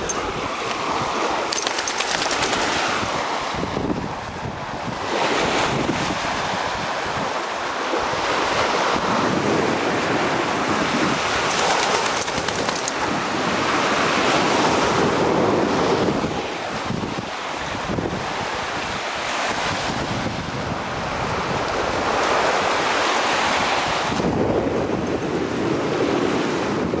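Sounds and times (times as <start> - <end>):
waves washing onto shore: 0.0 - 27.0.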